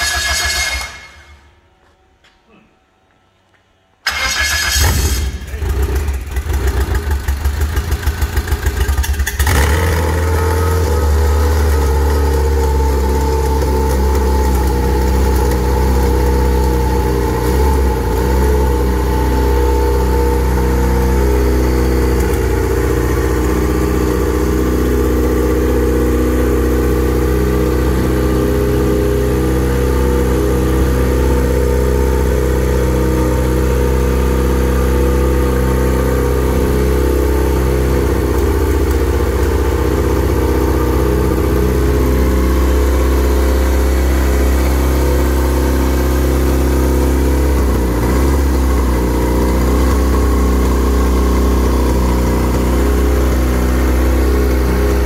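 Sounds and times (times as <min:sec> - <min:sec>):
aircraft engine idling: 0:04.1 - 0:55.0.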